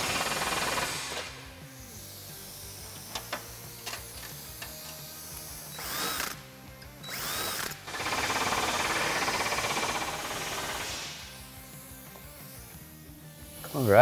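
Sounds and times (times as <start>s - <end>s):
cordless drill whirring: 0.0s - 12.7s.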